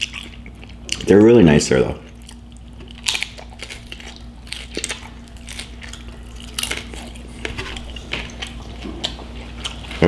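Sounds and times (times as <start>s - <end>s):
crunching tortilla chip: 0.0s - 1.2s, 2.0s - 10.0s.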